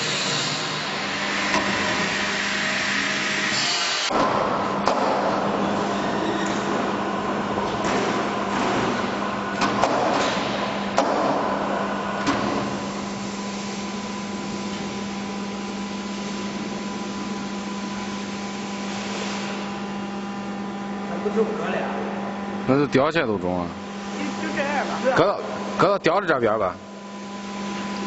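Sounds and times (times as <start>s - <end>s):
electric machinery hum: 0.0s - 28.0s.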